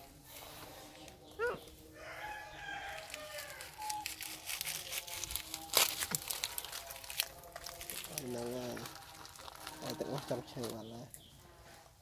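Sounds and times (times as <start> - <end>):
dry leaves crackling: 0.3 - 11.3.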